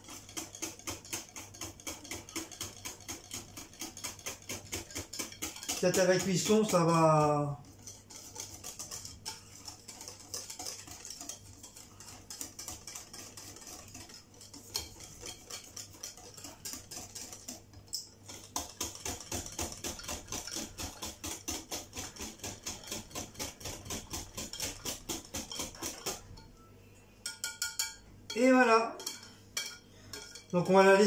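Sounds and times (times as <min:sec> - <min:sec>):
whisk clinking against glass bowl: 0:00.0 - 0:31.0.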